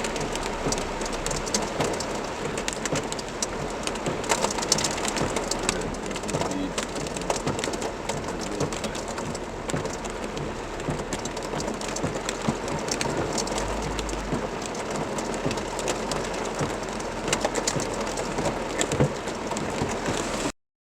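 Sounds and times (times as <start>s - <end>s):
drops ticking on hard surfaces: 0.0s - 19.9s
heavy rain rushing: 0.0s - 20.5s.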